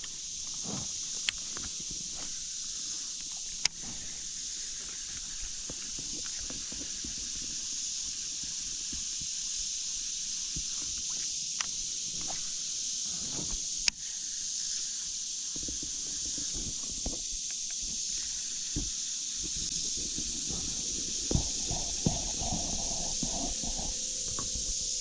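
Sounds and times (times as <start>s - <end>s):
high-pitched outdoor hiss: 0.0s - 25.0s.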